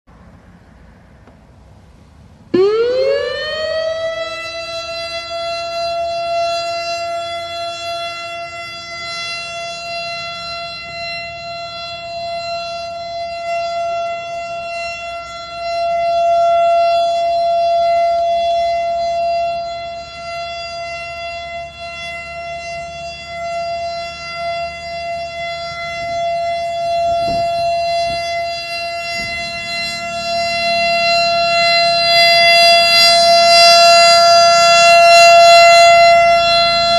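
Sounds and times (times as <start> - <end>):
air-raid siren wailing: 0.1 - 36.9.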